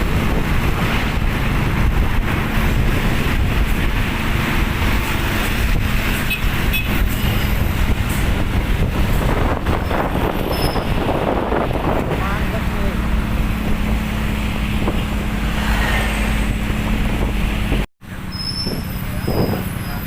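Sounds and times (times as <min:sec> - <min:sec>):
truck and road traffic rumble: 0:00.0 - 0:20.0.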